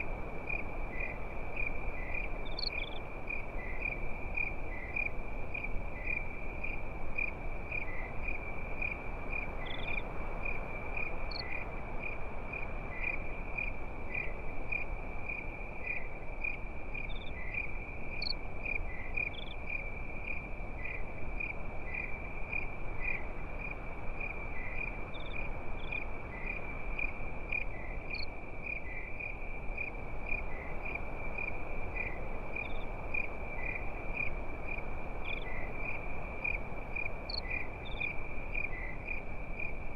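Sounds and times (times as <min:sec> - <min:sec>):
higher insect chirps: 0:00.0 - 0:39.8
crickets chirping: 0:00.0 - 0:39.9.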